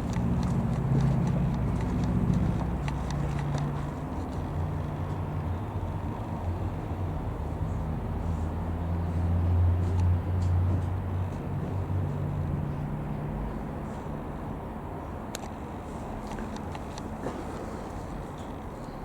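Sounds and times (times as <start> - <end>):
ultralight aircraft engine droning: 0.0 - 19.0.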